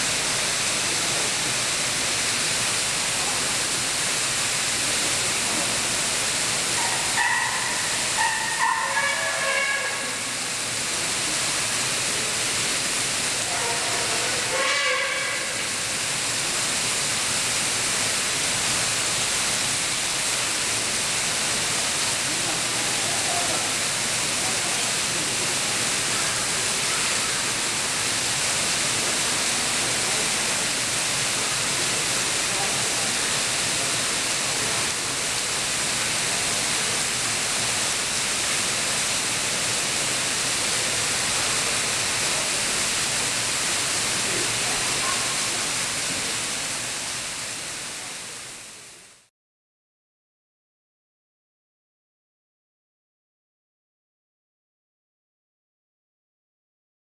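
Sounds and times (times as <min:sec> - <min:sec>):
waterfall rushing: 0:00.0 - 0:49.3.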